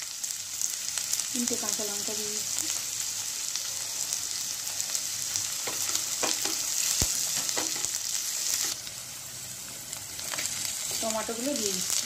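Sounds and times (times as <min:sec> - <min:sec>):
sizzling in hot oil: 0:00.0 - 0:12.0.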